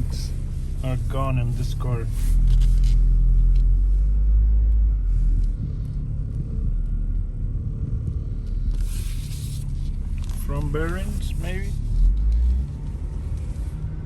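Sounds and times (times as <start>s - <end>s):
deep rumbling drone in car cabin: 0.0s - 14.0s.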